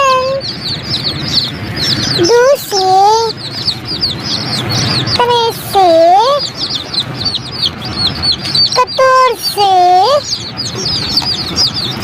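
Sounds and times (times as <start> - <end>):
chicks peeping: 0.0 - 12.0
drawn-out bending bird call: 0.0 - 12.0.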